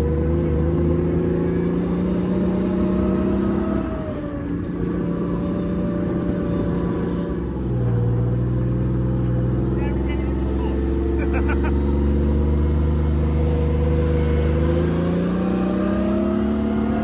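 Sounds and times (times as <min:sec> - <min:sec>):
tank engine running: 0:00.0 - 0:17.0.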